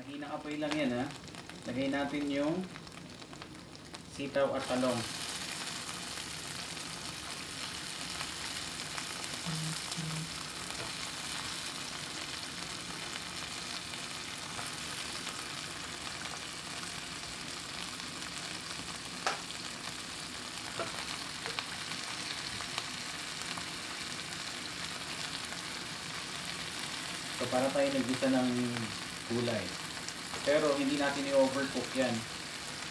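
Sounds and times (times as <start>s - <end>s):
vegetables sizzling in a frying pan: 0.0s - 32.9s.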